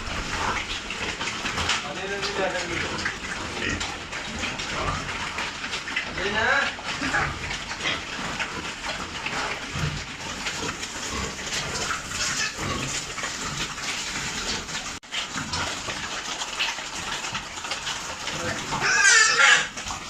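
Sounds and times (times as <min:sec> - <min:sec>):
pigs grunting: 0:00.0 - 0:20.0
running water: 0:00.0 - 0:20.0.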